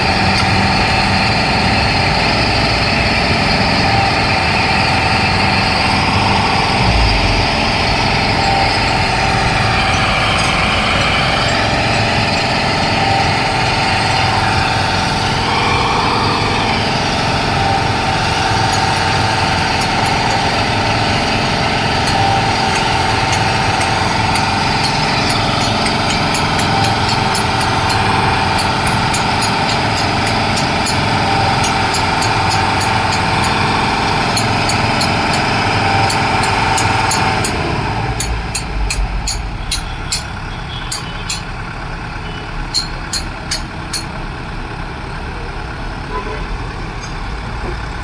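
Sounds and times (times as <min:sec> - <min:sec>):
motor whine: 0:00.0 - 0:40.6
concrete mixer churning: 0:00.0 - 0:41.5.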